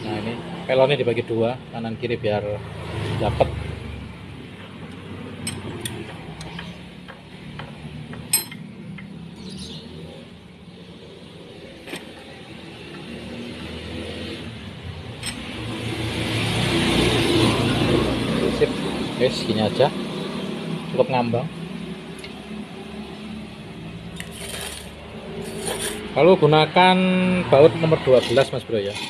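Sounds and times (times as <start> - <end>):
vehicle engine in background: 0.0 - 29.0.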